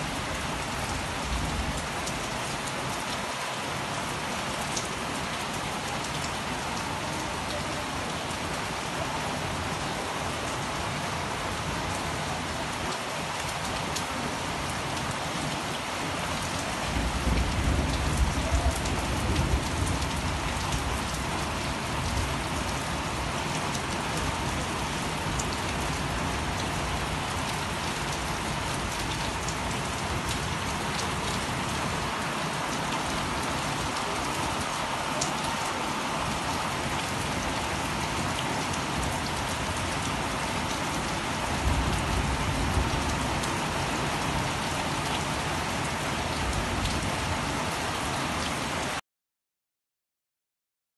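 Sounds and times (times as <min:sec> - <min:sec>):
heavy rain on foliage: 0:00.0 - 0:49.0.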